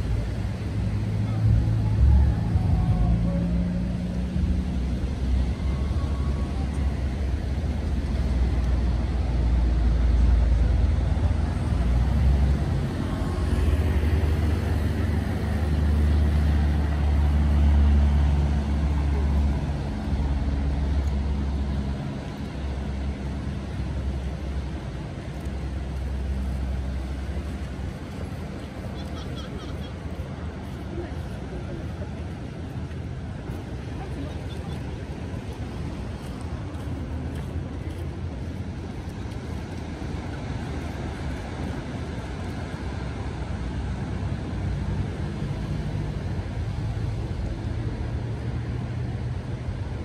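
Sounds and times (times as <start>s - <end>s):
jet airplane rumble: 0.0s - 50.0s.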